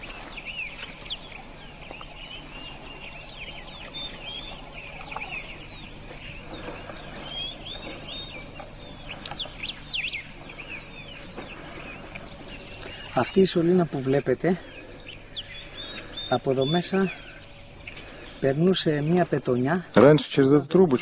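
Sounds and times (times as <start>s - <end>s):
faint low hum: 0.0s - 21.0s
small birds chirping: 0.0s - 21.0s.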